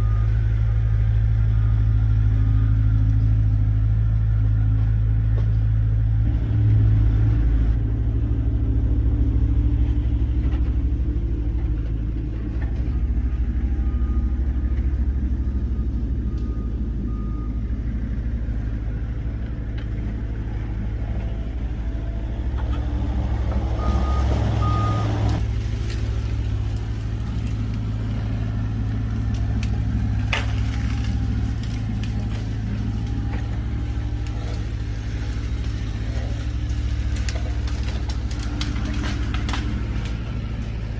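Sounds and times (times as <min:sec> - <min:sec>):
truck engine droning: 0:00.0 - 0:40.9.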